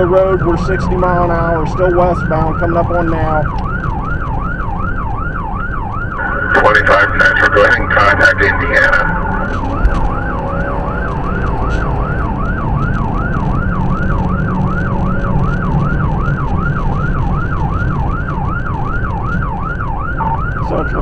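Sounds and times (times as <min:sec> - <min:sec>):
police siren yelping: 0:00.0 - 0:21.0
road and engine noise: 0:00.0 - 0:21.0.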